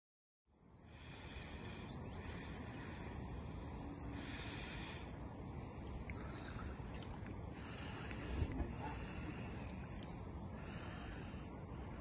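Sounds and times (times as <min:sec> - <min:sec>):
birds singing faintly: 0:00.5 - 0:12.0
wind buffeting microphone: 0:01.5 - 0:12.0.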